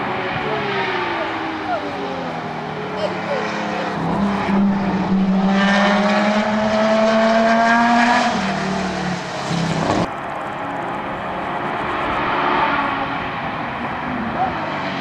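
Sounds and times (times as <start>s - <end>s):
distant race car engine: 0.0s - 15.0s
race car engine accelerating: 0.0s - 15.0s.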